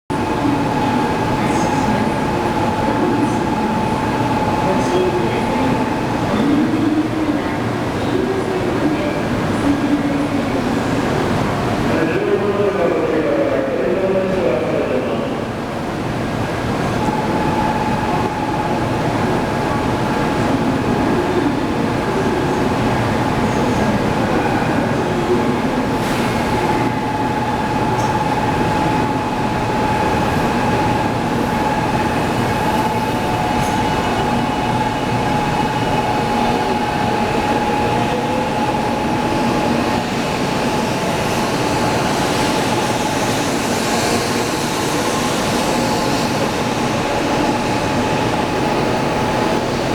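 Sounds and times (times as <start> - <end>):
train rumble and hiss: 0.1 - 49.9.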